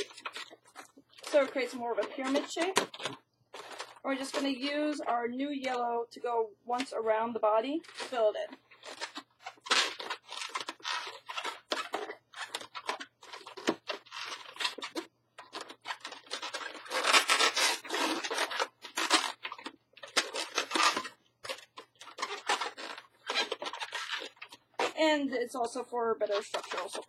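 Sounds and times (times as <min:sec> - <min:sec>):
balloons rubbing while twisted: 0:00.0 - 0:05.0, 0:07.7 - 0:27.0.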